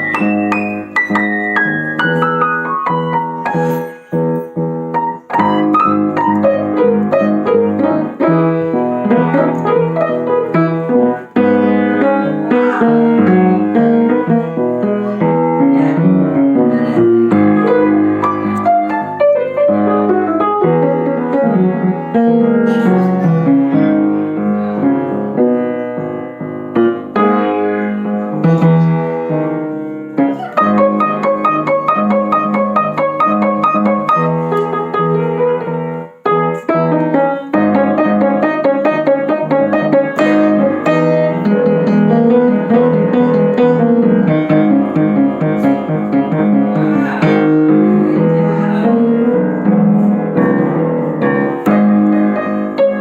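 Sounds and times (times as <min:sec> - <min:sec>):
solo piano music: 0:00.0 - 0:53.0.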